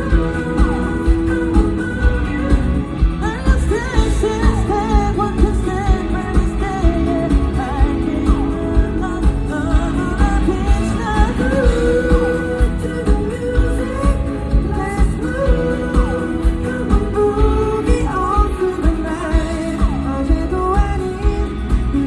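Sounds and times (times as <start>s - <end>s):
live pop-rock band: 0.0s - 22.0s
man singing lead vocal: 0.0s - 22.0s
steady drum beat: 0.0s - 22.0s.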